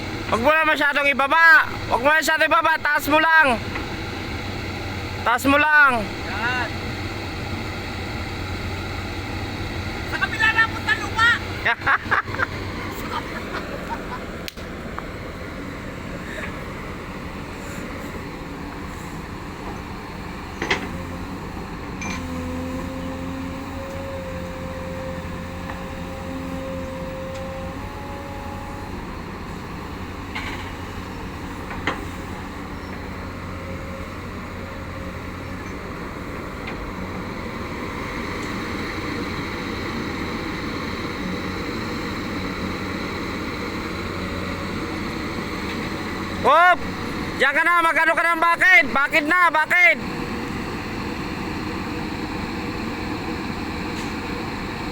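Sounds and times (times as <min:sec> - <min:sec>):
backhoe diesel engine: 0:00.0 - 0:54.9.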